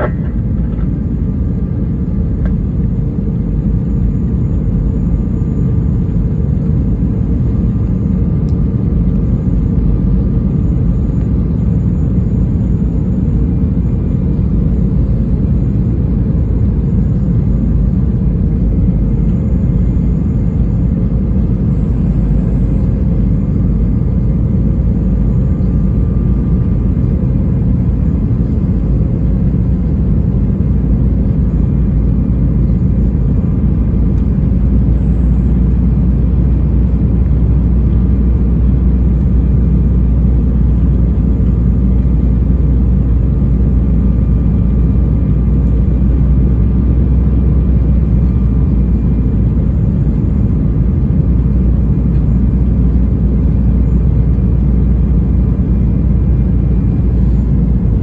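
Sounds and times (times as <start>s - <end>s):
faint steady hum: 0.0s - 58.0s
jet engine rumble: 0.0s - 58.0s.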